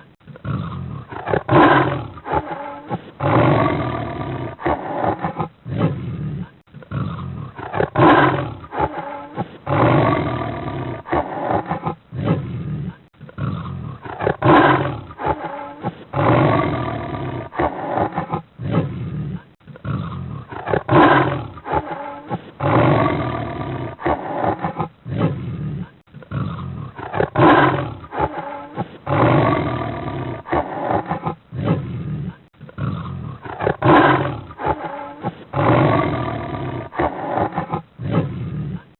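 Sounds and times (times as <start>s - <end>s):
big cat roaring and growling: 0.4s - 38.9s.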